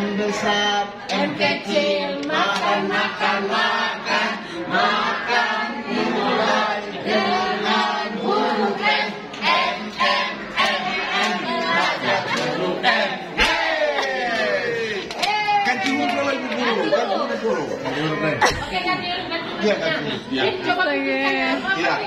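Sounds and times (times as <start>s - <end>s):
group of adults singing: 0.0s - 19.4s.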